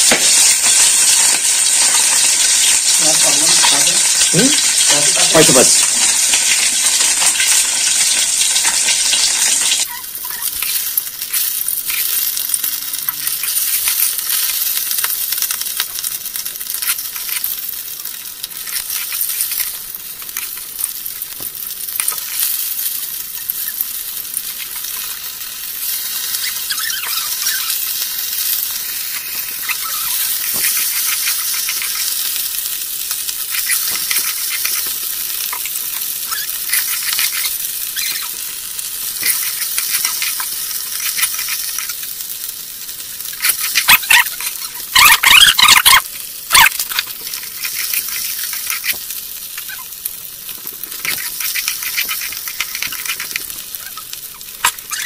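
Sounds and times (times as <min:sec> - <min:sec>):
fish sizzling in hot oil: 0:00.0 - 0:55.0.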